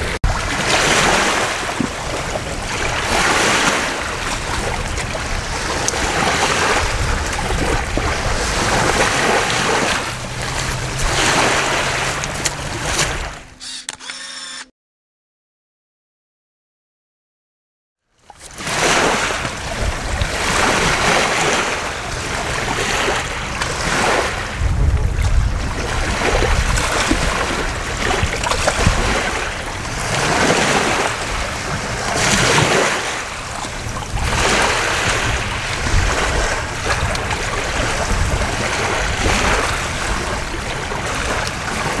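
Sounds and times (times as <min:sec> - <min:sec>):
wind rumbling on microphone: 0:00.0 - 0:13.5, 0:18.6 - 0:42.0
small waves lapping: 0:00.0 - 0:13.6, 0:18.2 - 0:42.0.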